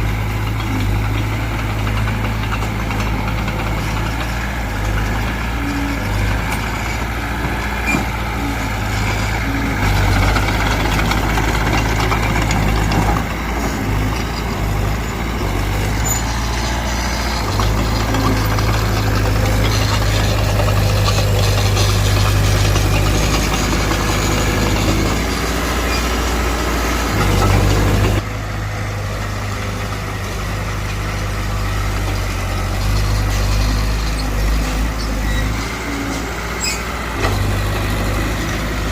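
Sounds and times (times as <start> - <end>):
diesel engine of earthmover running: 0.0 - 38.9.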